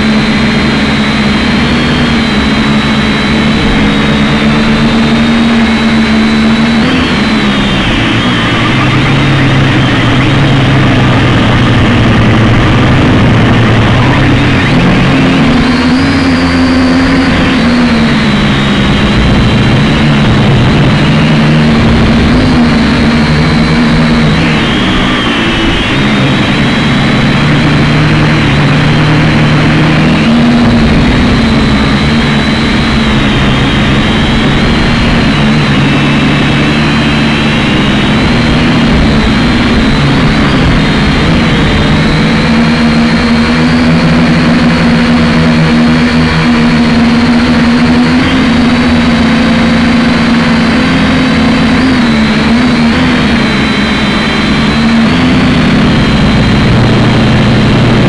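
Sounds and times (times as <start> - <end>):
drone motors and propellers buzzing: 0.0 - 58.0.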